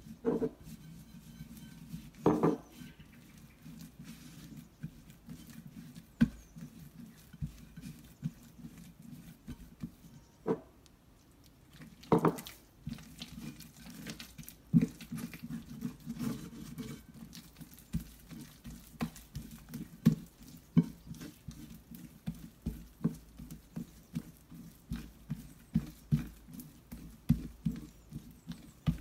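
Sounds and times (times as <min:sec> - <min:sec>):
hand kneading sticky dough: 0:00.0 - 0:10.4, 0:11.2 - 0:29.0.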